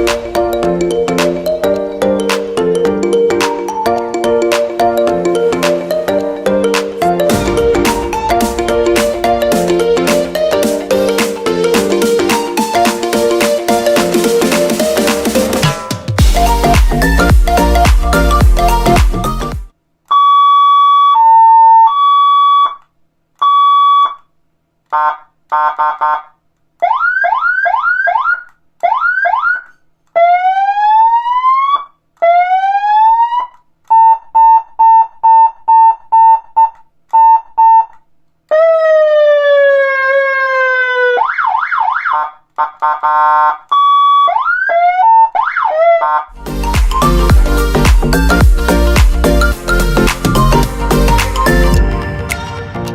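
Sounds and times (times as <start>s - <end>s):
electronic vehicle siren: 5.2s - 22.8s, 23.4s - 24.3s, 24.9s - 52.3s.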